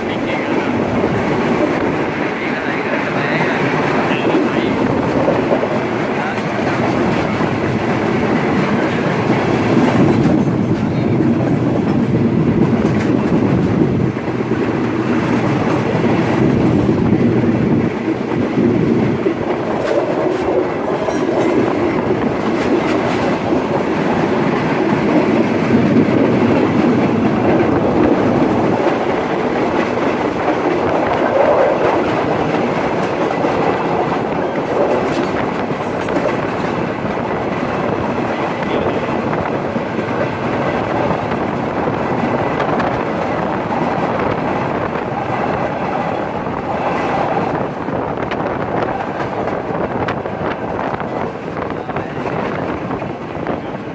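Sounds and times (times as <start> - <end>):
clickety-clack of rail joints: 0.0 - 53.9
train wheels rumbling on rails: 0.0 - 53.9.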